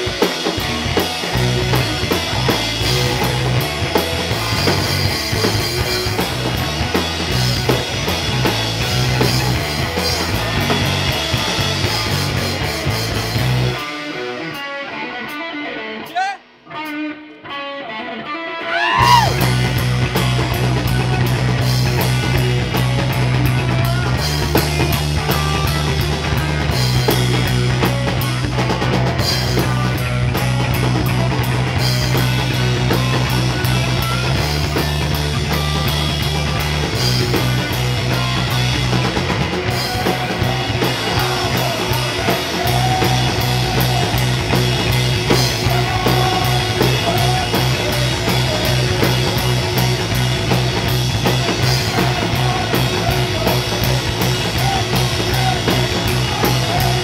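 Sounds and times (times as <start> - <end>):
heavy electric bass line: 0.0 - 13.9, 19.0 - 57.0
drum kit: 0.0 - 14.7, 18.7 - 57.0
electric guitar: 0.0 - 57.0.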